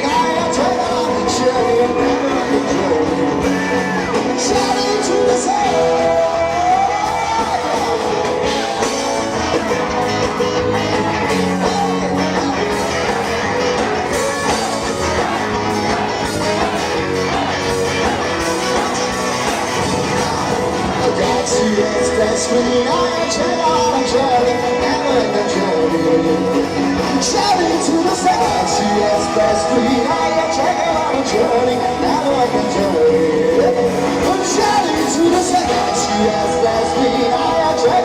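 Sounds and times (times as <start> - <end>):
person singing or shouting: 0.0 - 38.0
rock band playing live: 0.0 - 38.0.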